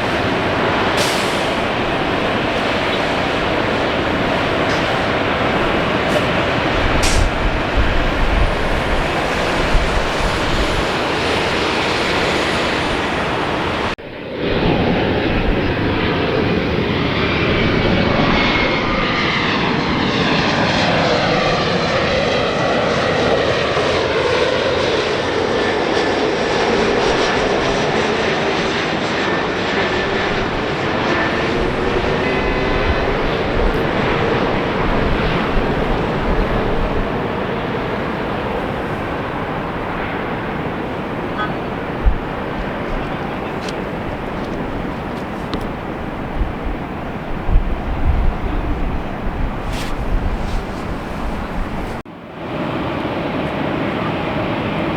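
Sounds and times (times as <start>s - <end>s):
jet airliner engines passing: 0.0s - 54.9s.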